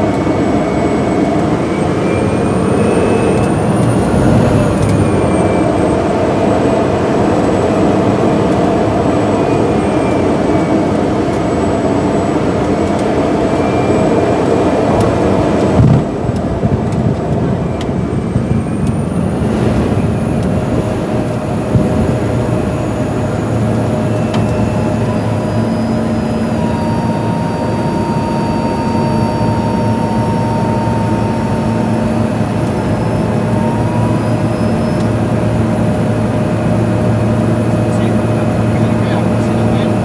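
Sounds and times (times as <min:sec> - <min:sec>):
turboprop engine drone: 0:00.0 - 0:40.0.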